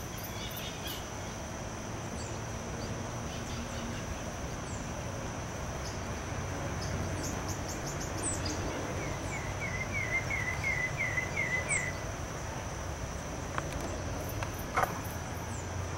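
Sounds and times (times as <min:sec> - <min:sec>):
high insect-like whine: 0:00.0 - 0:15.9.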